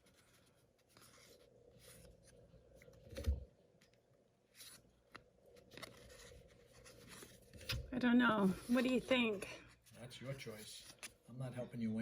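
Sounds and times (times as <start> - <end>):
cards rustling and sliding: 0.0 - 11.2.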